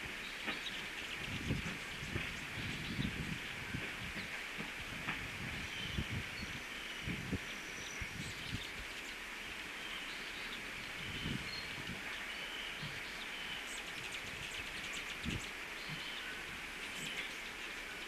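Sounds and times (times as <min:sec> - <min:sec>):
small birds chirping: 0:00.0 - 0:04.4, 0:05.0 - 0:18.0
steady hiss: 0:00.0 - 0:18.0.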